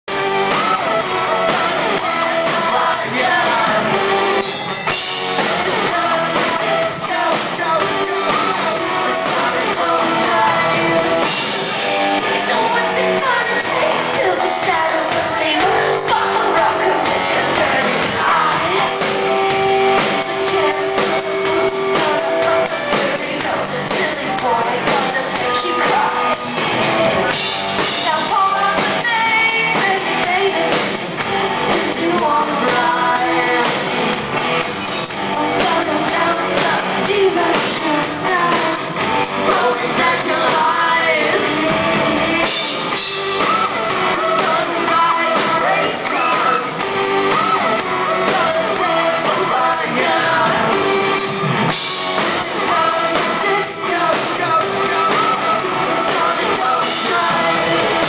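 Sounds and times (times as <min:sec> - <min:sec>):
person singing: 0:00.1 - 0:26.5, 0:27.2 - 0:34.4, 0:35.0 - 0:58.0
live rock band playing: 0:00.1 - 0:58.0.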